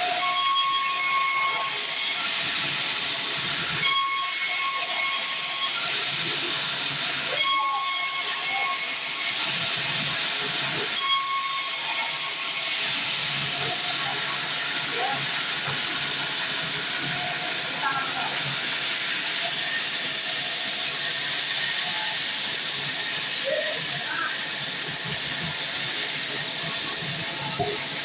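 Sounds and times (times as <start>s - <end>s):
band saw cutting timber: 0.0s - 28.0s.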